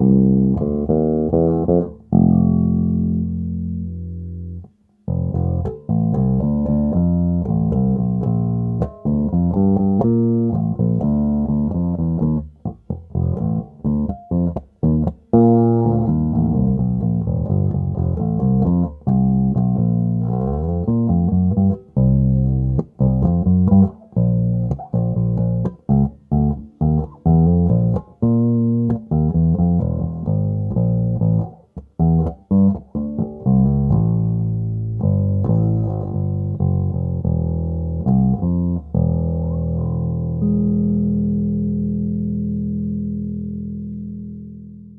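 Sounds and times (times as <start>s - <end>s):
electric bass plucked notes: 0.0s - 44.9s.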